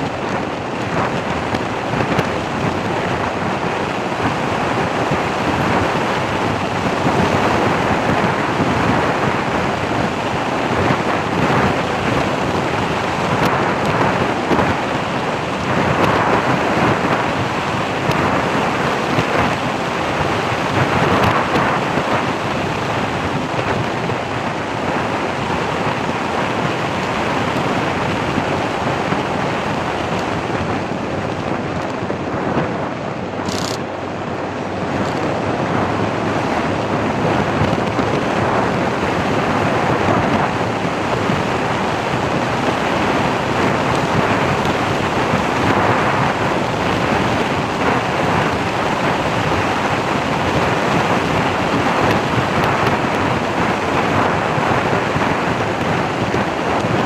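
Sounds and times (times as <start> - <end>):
road noise: 0.0 - 57.0
rushing wind: 0.0 - 57.0.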